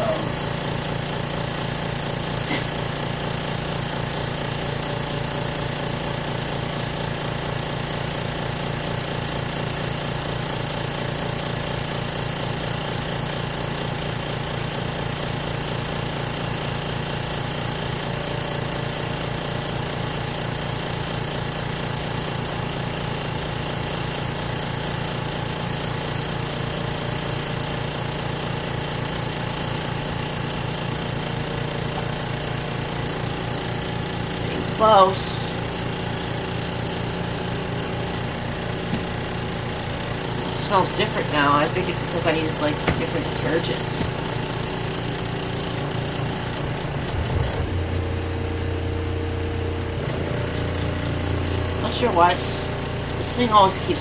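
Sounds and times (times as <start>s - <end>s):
exhaust fan humming: 0.0s - 54.0s.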